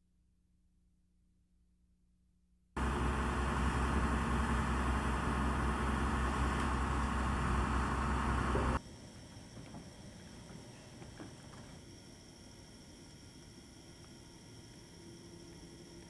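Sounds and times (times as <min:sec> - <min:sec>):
steady hiss: 0:02.8 - 0:16.0.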